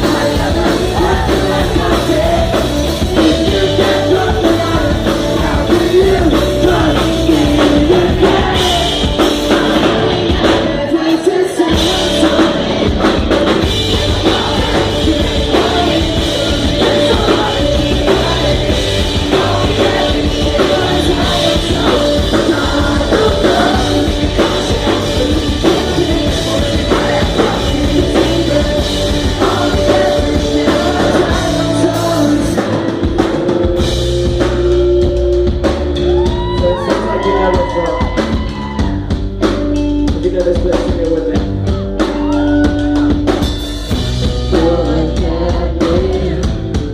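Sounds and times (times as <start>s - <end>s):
person singing: 0.0s - 33.8s, 36.0s - 39.2s, 44.5s - 46.9s
live rock band: 0.0s - 46.9s.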